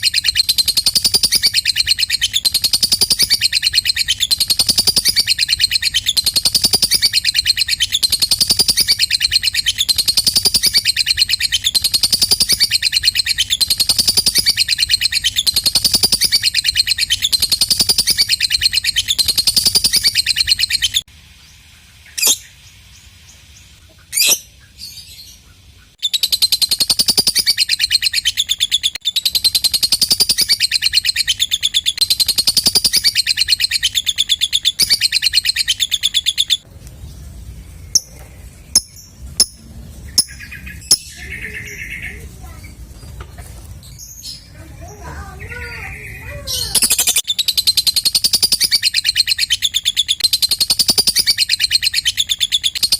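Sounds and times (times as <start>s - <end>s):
bird chattering trill: 0.0s - 21.1s, 23.8s - 24.8s, 25.9s - 36.7s, 37.9s - 43.2s, 44.3s - 52.9s
bird sharp chirps: 0.0s - 43.2s, 43.8s - 52.9s.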